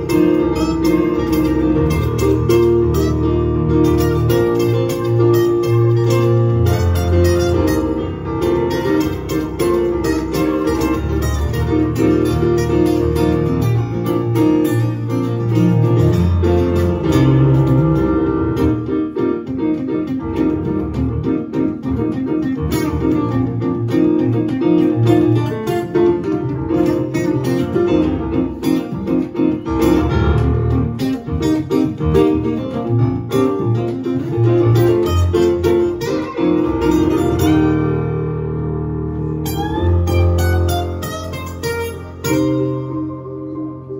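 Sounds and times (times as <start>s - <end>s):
digital piano: 0.0s - 43.9s.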